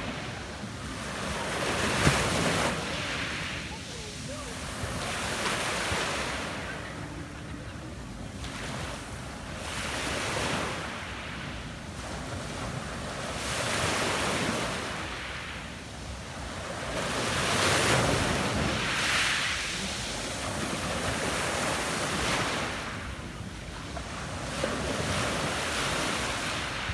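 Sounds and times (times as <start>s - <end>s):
waves washing up pebble beach: 0.0s - 26.9s.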